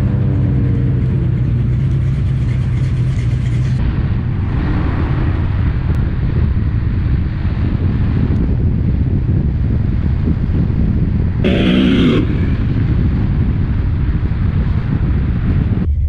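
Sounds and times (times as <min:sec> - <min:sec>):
car engine rumbling: 0:00.0 - 0:16.0
wind rush of moving car: 0:00.0 - 0:16.0.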